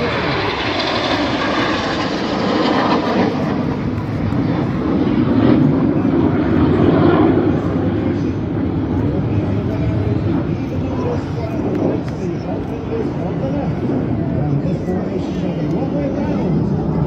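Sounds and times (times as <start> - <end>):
jets flying overhead: 0.0 - 17.0.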